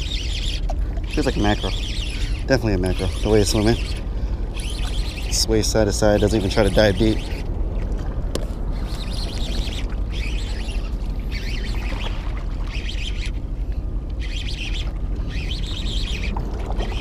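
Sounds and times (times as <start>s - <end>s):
fishing reel whirring: 0.0s - 7.5s, 8.7s - 13.4s, 14.2s - 17.0s
water against rocks: 0.0s - 17.0s.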